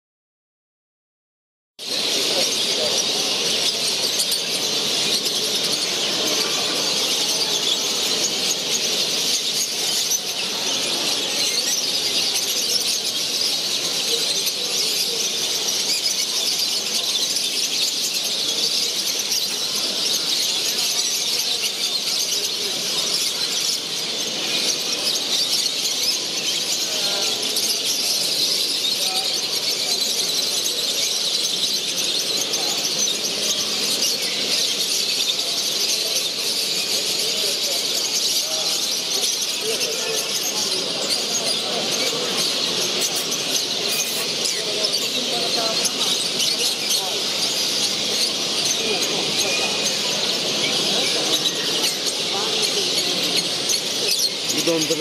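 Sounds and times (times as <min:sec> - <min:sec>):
finches chirping and twittering: 0:01.8 - 0:55.0.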